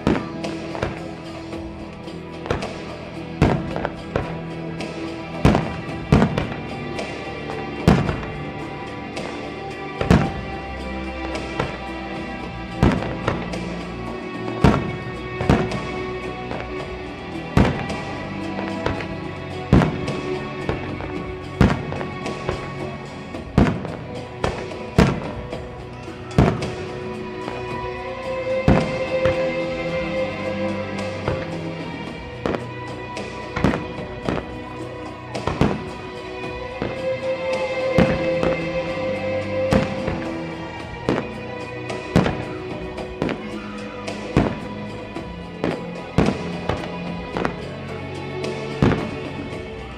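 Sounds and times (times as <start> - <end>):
firework shells bursting: 0.0 - 49.4
music: 0.0 - 49.9.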